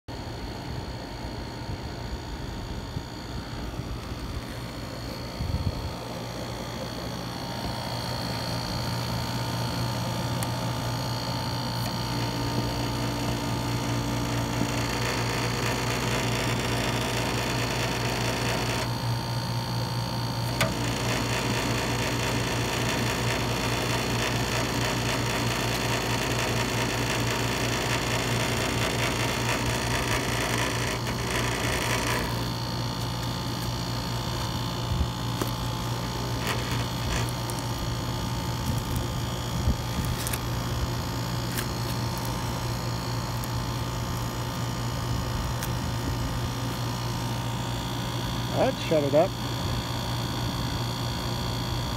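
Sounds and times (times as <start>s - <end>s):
air conditioner humming: 0.1s - 51.9s
refrigerant lines rattling: 5.3s - 49.3s.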